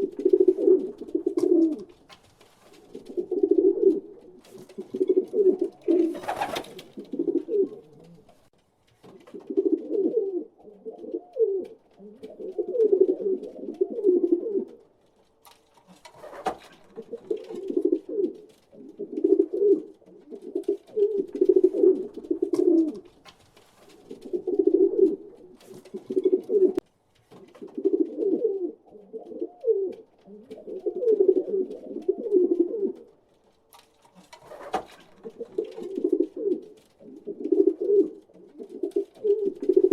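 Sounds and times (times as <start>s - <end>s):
pigeons cooing: 0.0s - 2.1s, 2.8s - 8.5s, 9.2s - 14.8s, 15.9s - 23.2s, 23.9s - 26.8s, 27.5s - 33.1s, 34.2s - 39.9s.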